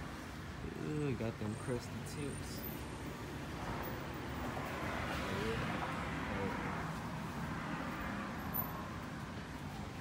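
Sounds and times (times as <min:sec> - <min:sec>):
auto repair shop background noise: 0:00.0 - 0:10.0.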